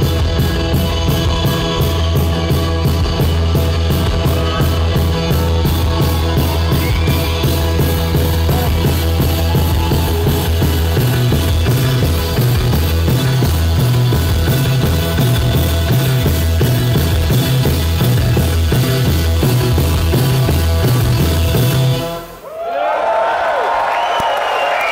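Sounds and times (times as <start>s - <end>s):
electric guitar: 0.0s - 22.4s
heavy bass line: 0.0s - 22.4s
live rock music: 0.0s - 22.4s
drums: 0.0s - 22.8s.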